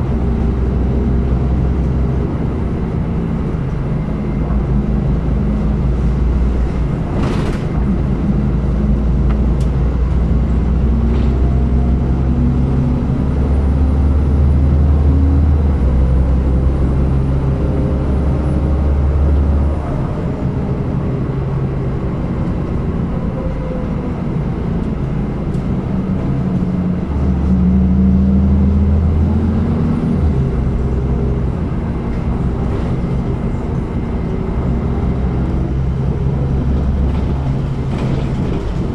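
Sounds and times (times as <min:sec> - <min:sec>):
bus engine hum: 0:00.0 - 0:38.9.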